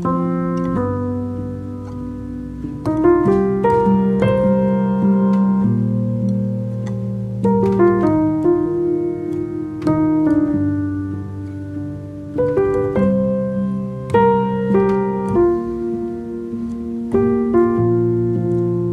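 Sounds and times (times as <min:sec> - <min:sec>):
soft piano music: 0:00.0 - 0:18.9.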